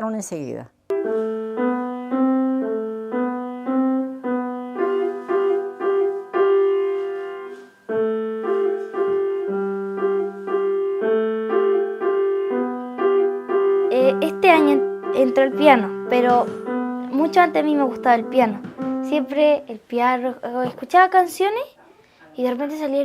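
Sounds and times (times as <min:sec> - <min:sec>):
slow piano tune: 0:00.9 - 0:19.8.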